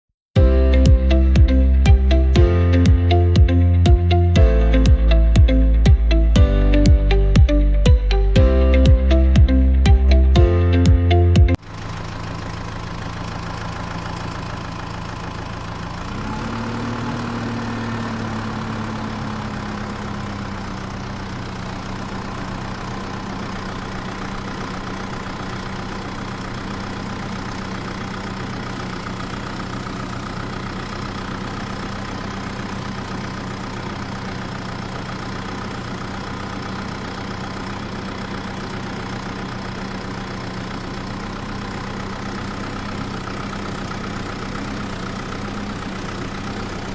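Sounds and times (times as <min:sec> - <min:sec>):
engine idling: 0:00.4 - 0:46.9.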